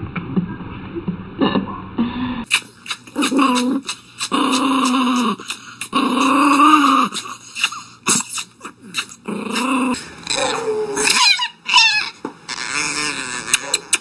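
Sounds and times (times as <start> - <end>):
dog growling: 1.4 - 14.0
dog whining: 2.4 - 14.0.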